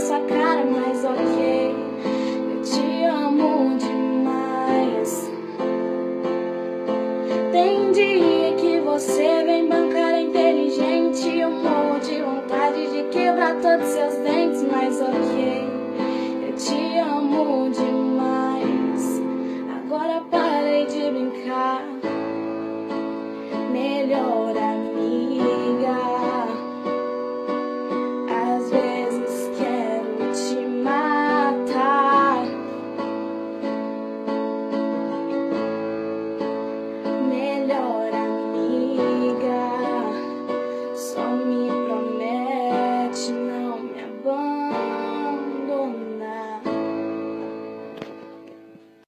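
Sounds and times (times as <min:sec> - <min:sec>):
person singing wordless melody: 0:00.0 - 0:47.9.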